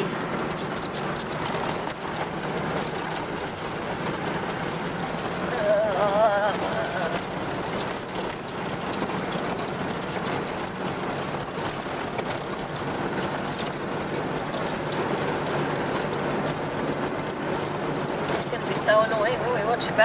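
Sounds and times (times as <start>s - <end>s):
rattles and knocks: 0.0s - 19.4s
engine drone: 0.0s - 20.0s.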